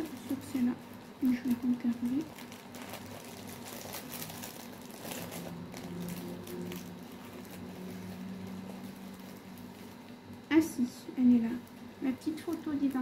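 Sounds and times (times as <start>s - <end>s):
packaging rustling and crinkling: 0.0s - 13.0s
steady low hum: 0.0s - 13.0s.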